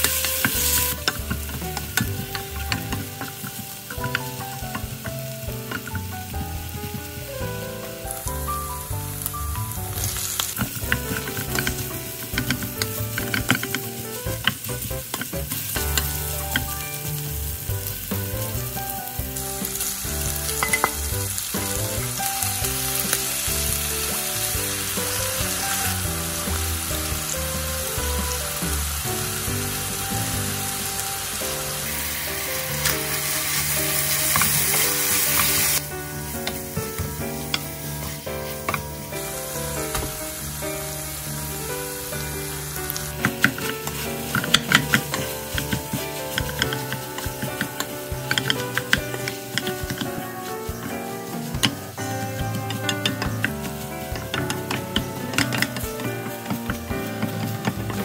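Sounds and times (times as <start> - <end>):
food sizzling in a frying pan: 0.0 - 58.0
wooden spatula stirring: 0.0 - 58.0.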